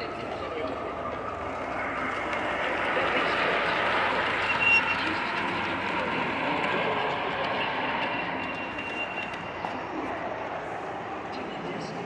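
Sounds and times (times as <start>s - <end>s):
model train wheels rumbling: 0.0s - 10.8s.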